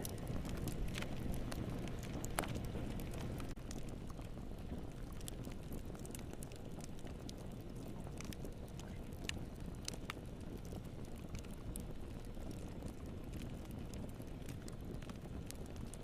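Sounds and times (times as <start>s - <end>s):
fire crackles and pops: 0.0s - 16.0s
fire rumbling in fireplace: 0.0s - 16.0s.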